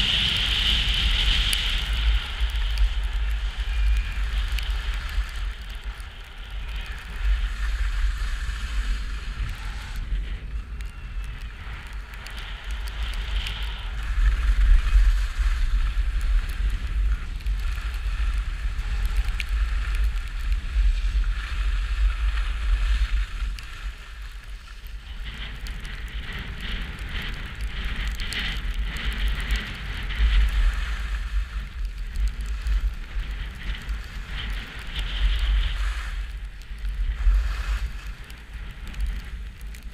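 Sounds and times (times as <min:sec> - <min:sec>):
skis scraping over snow: 0:00.0 - 0:39.9
wind rushing over microphone: 0:00.0 - 0:39.9.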